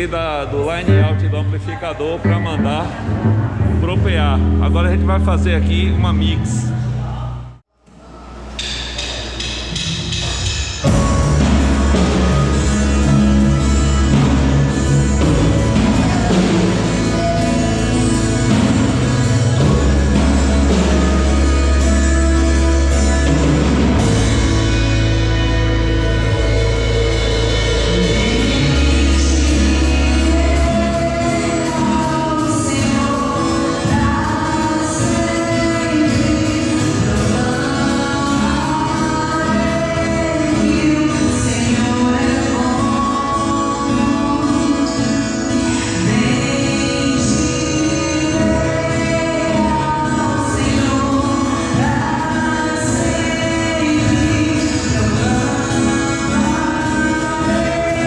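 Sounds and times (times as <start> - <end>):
bass notes: 0.0 - 58.0
drums: 2.6 - 7.2, 7.8 - 58.0
voices singing: 10.8 - 58.0.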